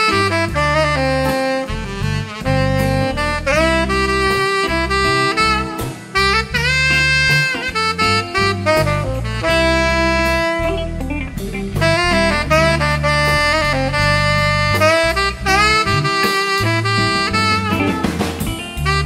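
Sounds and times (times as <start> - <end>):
bass and drums: 0.0 - 19.0
tenor saxophone solo: 0.0 - 19.0.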